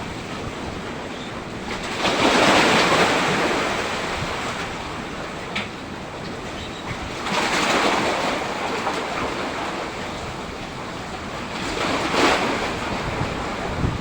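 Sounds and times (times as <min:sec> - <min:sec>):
sea waves breaking: 0:00.0 - 0:14.0
wind buffeting microphone: 0:00.0 - 0:14.0.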